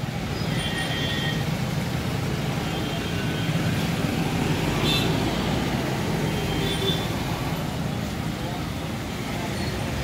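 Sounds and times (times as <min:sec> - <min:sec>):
car engines and road noise: 0:00.0 - 0:10.0.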